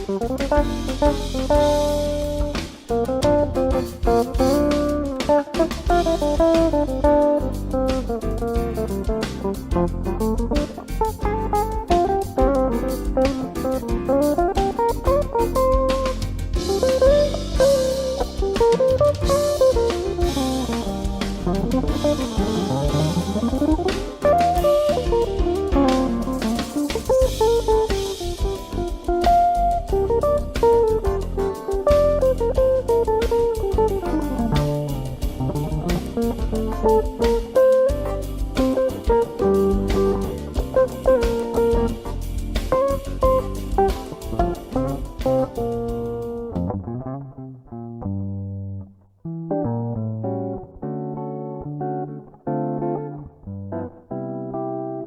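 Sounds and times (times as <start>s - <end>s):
drums: 0.0s - 46.7s
bass guitar: 0.0s - 55.0s
electric guitar lead line: 0.0s - 55.0s.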